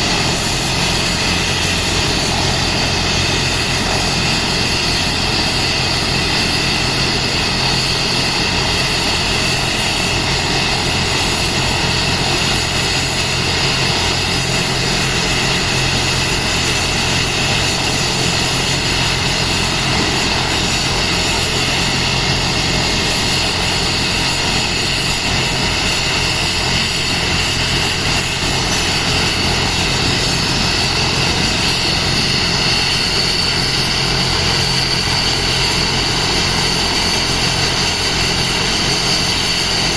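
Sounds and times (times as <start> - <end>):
helicopter rotor flutter: 0.0 - 39.9
turbine whine: 0.0 - 39.9.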